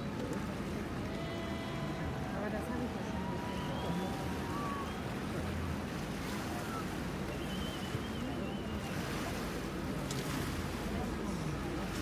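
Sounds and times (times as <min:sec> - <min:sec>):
river washing along shore: 0:00.0 - 0:12.0.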